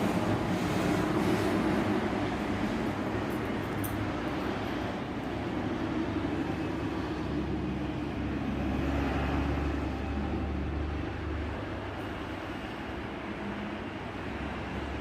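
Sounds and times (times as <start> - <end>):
heavy vehicle engine drone: 0.0 - 15.0.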